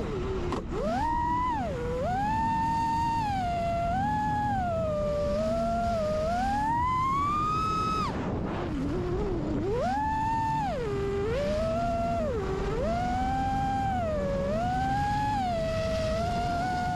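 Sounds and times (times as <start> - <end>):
quadcopter motors whining: 0.0 - 16.9
wind rush: 2.6 - 16.9.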